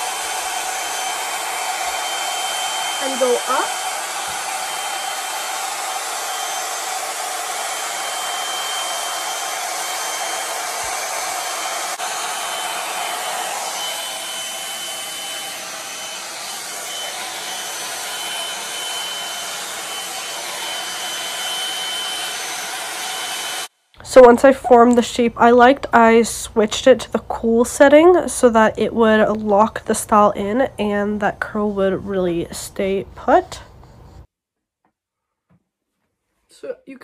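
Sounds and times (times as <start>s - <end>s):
hair dryer blowing: 0.0s - 33.8s.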